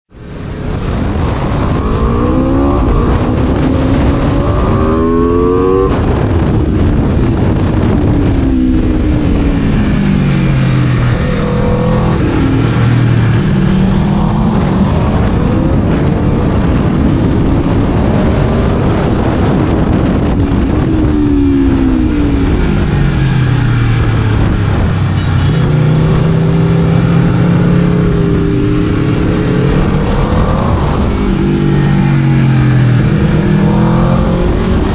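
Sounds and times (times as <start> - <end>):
motorcycle engine revving: 0.5 - 34.9.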